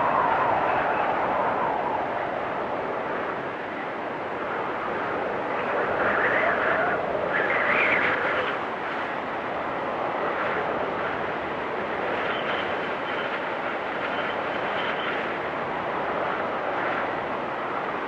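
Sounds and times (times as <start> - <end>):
faint high wind whistle: 0.0 - 18.0
wind storm blowing: 0.0 - 18.0.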